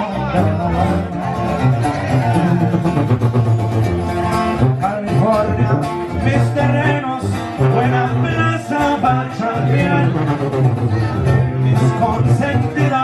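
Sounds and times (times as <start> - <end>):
person singing: 0.0 - 3.6, 4.6 - 13.0
latin song with guitar and bass: 0.0 - 13.0.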